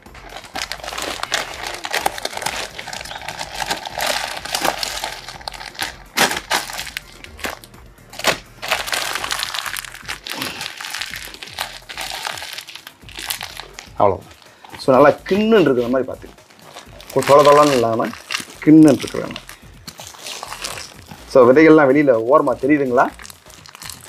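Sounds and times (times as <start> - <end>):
plastic bag crinkling: 0.0 - 21.4, 23.0 - 24.0.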